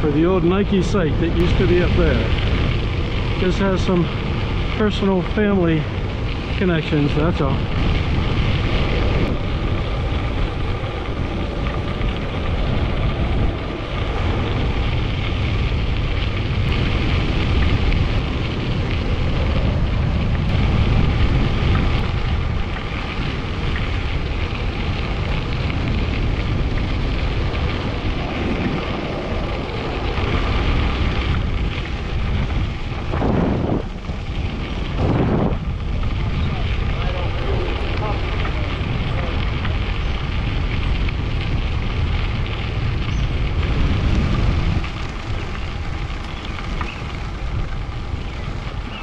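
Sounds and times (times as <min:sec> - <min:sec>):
tyres rolling on gravel: 0:00.0 - 0:49.0
wind rushing over microphone: 0:00.0 - 0:49.0.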